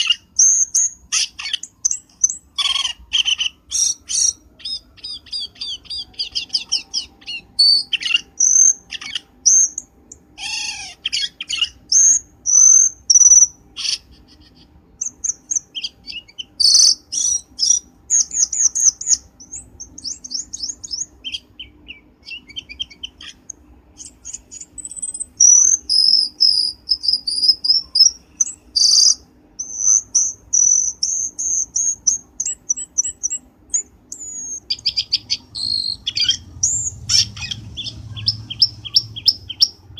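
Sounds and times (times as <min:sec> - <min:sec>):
bird chirps trills and whistles: 0:00.0 - 0:39.9.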